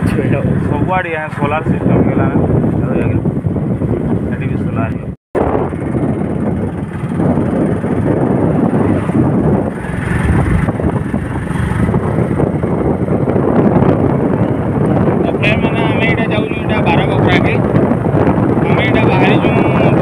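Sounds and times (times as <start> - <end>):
motorbike running noise: 0.0 - 20.0
wind rushing over microphone: 0.0 - 20.0.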